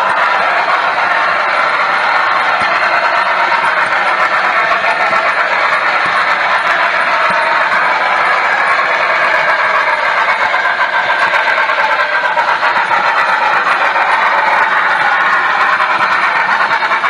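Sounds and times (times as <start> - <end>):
model wheels rolling on track: 0.0 - 17.0
steam engine sound from small speaker: 0.0 - 17.0.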